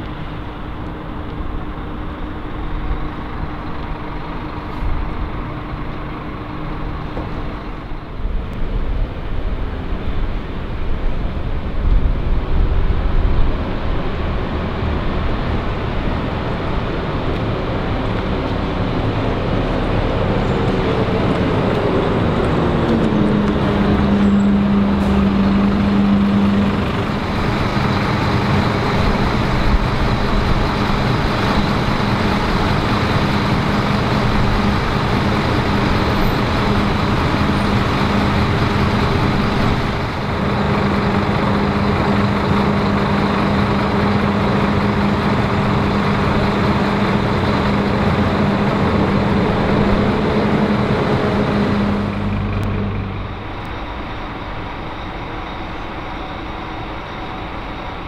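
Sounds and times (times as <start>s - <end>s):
bus diesel engines running: 0.0s - 58.0s.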